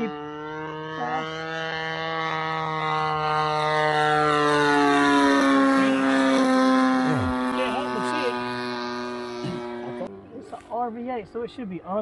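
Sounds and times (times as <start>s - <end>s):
model plane engine flying by: 0.0s - 10.2s.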